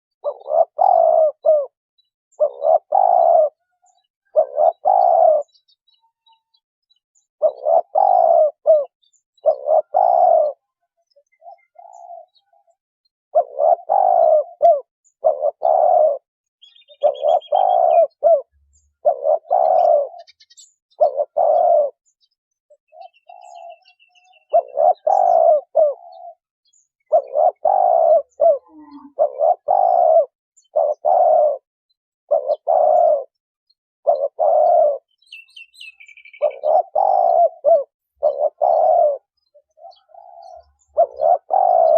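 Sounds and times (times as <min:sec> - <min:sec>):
faint high bird chirps: 0:00.1 - 0:41.9
dove cooing: 0:00.2 - 0:05.8, 0:07.4 - 0:22.1, 0:22.8 - 0:31.7, 0:32.3 - 0:33.4, 0:34.0 - 0:41.9.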